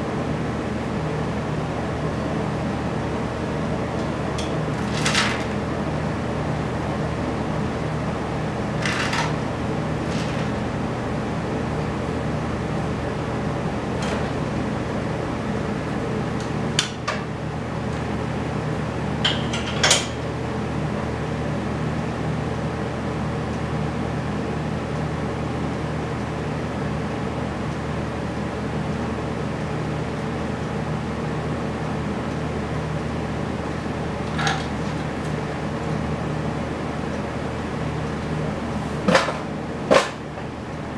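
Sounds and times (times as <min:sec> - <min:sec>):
mechanical hum: 0:00.0 - 0:40.9.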